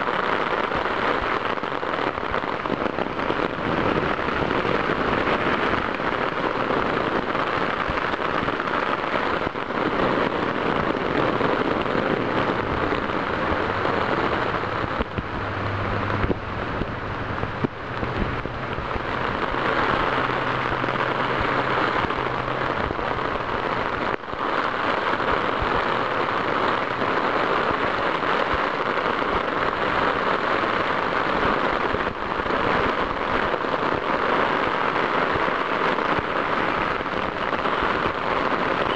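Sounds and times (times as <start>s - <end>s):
heavy rain on plastic bag: 0.0s - 38.9s.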